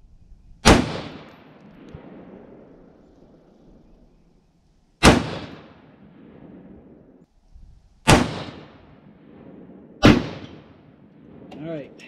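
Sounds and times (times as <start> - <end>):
rifle shot with long echo: 0.6 - 7.2, 8.0 - 12.0.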